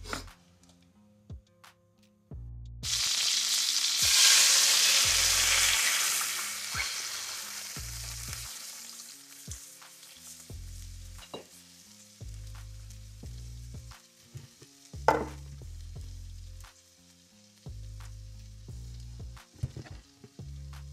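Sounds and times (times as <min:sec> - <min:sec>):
background music with bass line: 0:00.0 - 0:08.8, 0:09.5 - 0:20.9
cream sizzling in frying pan: 0:02.8 - 0:20.9.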